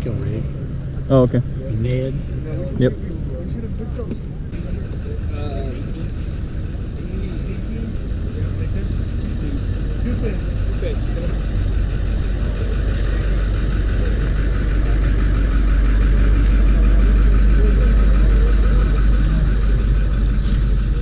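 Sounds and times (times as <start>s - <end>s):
loud low rumble: 0.0s - 21.0s.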